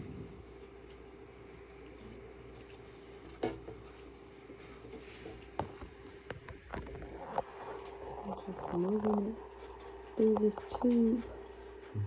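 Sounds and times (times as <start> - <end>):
plastic filament rubbing: 0.0 - 11.9
faint steady hum: 0.0 - 12.0.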